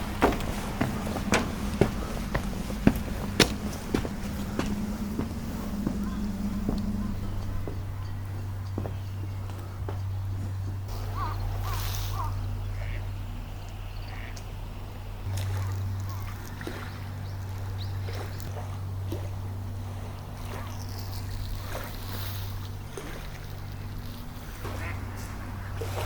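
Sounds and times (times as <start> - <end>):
low droning hum: 0.0 - 26.0.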